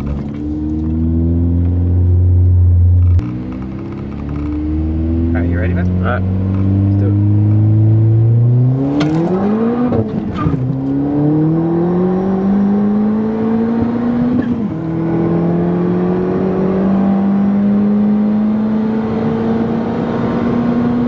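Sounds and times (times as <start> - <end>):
turbocharged car accelerating hard: 0.0 - 21.0.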